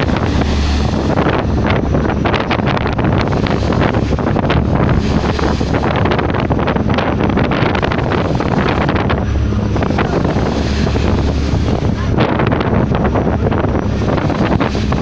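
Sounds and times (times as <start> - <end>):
white water splashing along a boat: 0.0 - 15.0
wind buffeting the microphone: 0.0 - 15.0.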